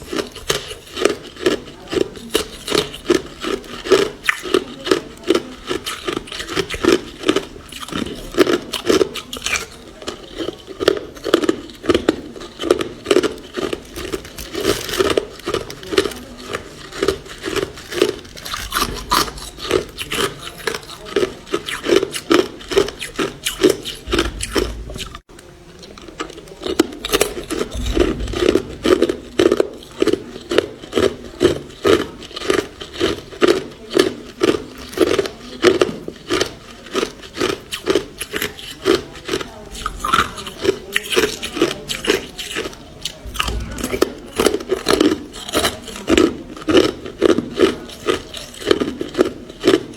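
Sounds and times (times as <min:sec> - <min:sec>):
ice being chewed: 0:00.0 - 0:49.9.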